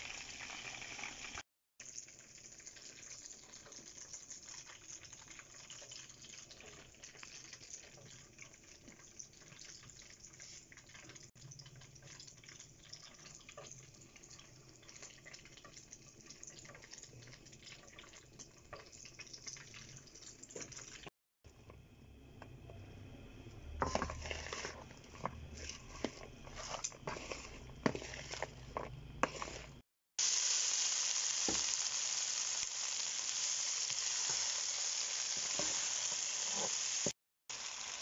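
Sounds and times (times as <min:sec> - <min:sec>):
chicken frying in hot oil: 0:00.0 - 0:21.2, 0:23.5 - 0:38.0.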